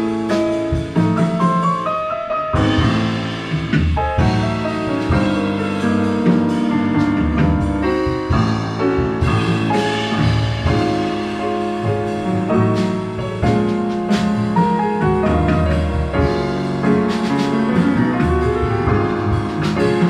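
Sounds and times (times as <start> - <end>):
double bass: 0.0 - 20.0
drum kit with cymbals: 0.0 - 20.0
grand piano: 0.0 - 20.0.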